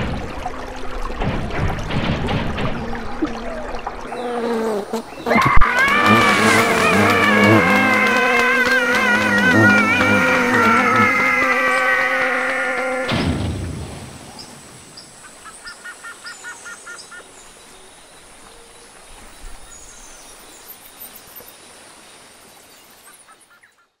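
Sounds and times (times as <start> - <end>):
background hiss: 4.0 - 23.8.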